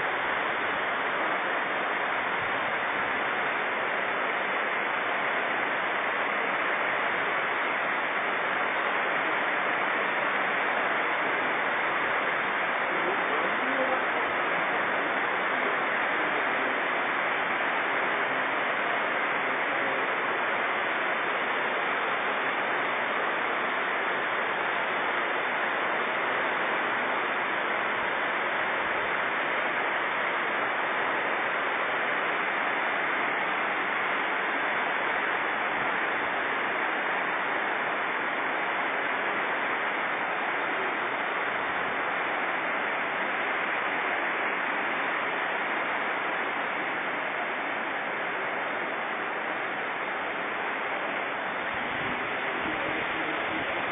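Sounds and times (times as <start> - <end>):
flooded river rushing: 0.0 - 53.9.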